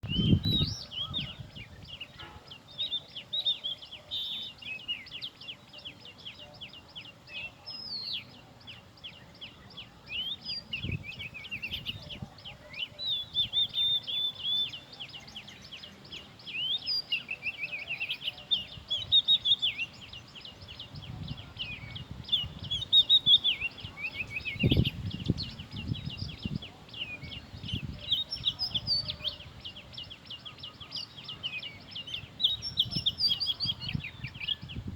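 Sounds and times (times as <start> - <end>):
bird singing: 0.0 - 34.9.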